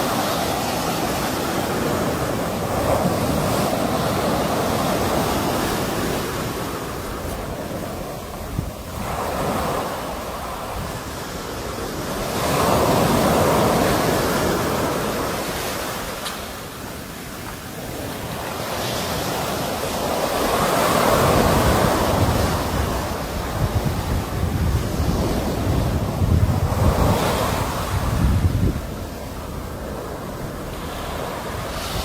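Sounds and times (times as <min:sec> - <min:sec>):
sea waves breaking ashore: 0:00.0 - 0:32.0.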